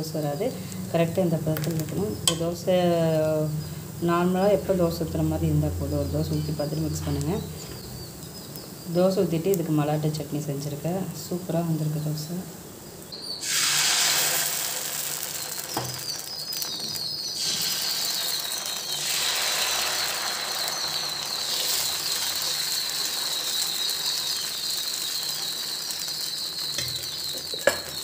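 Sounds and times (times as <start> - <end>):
batter sizzling on hot pan: 0.0 - 10.1, 13.0 - 28.0.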